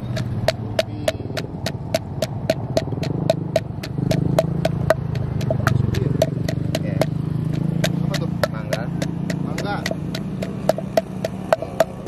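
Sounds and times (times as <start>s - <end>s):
wooden pestle pounding in mortar: 0.0s - 12.0s.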